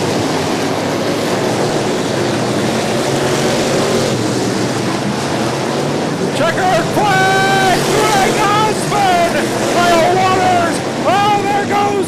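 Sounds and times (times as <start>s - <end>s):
race car engines running flat out: 0.0s - 11.4s.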